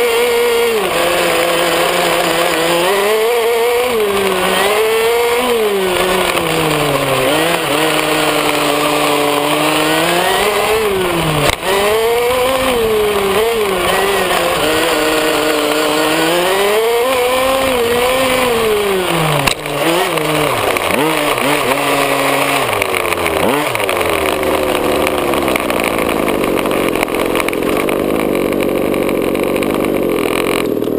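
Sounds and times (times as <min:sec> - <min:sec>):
radio-controlled buggy engine running: 0:00.0 - 0:30.9.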